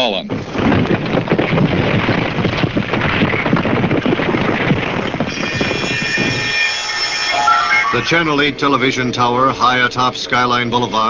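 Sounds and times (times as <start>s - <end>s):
crackling storm wind noise: 0.0s - 11.0s.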